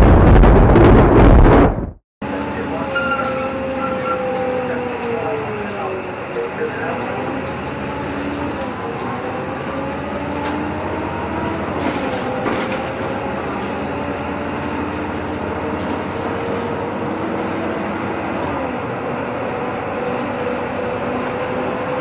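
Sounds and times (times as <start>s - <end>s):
bus engine and transmission whine: 0.0s - 22.0s
road rumble: 0.0s - 22.0s.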